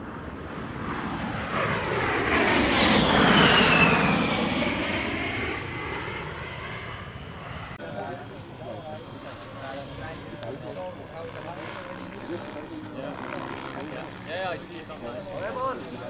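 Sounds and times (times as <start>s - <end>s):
aircraft flying by: 0.0s - 16.0s.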